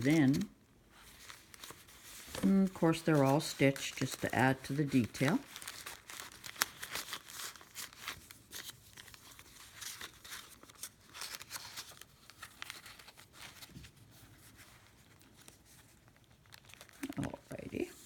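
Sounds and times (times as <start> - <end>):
paper rustling and crinkling: 0.0 - 18.0.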